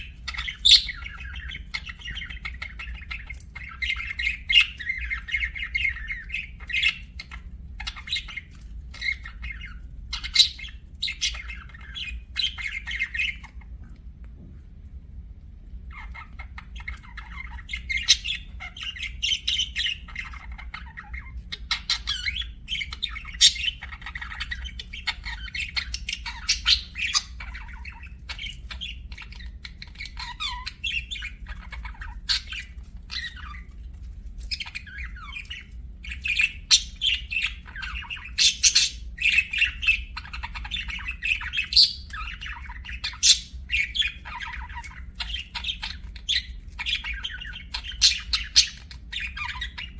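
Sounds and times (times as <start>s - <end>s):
budgerigars chattering: 0.0s - 13.7s, 15.9s - 49.9s
steady low hum: 0.0s - 49.9s.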